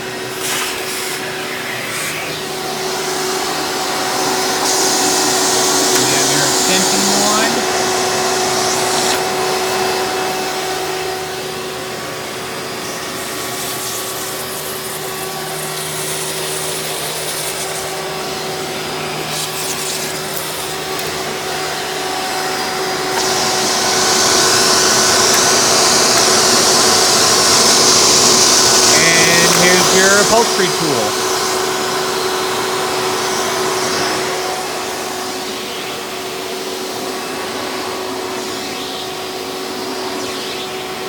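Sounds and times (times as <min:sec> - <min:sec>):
upright vacuum motor running: 0:00.0 - 0:41.0.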